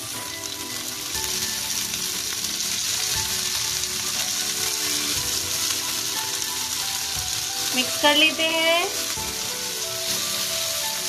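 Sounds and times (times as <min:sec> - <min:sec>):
potatoes sizzling in a pan: 0:00.0 - 0:11.0.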